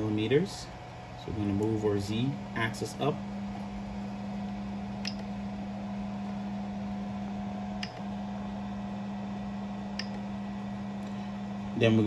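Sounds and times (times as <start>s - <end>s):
printer humming: 0.0s - 12.0s.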